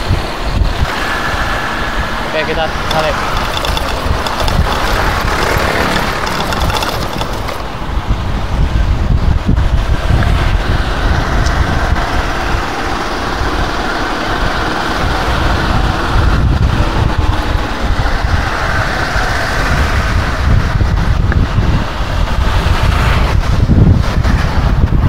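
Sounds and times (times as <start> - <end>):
road and traffic noise: 0.0 - 25.0
wind buffeting microphone: 2.0 - 25.0.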